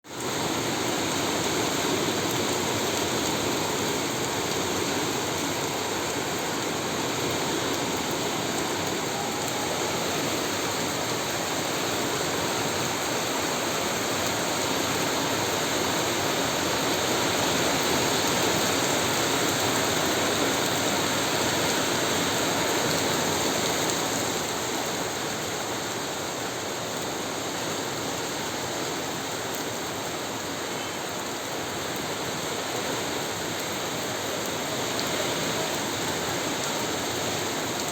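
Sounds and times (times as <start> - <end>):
heavy rain falling: 0.1 - 37.9.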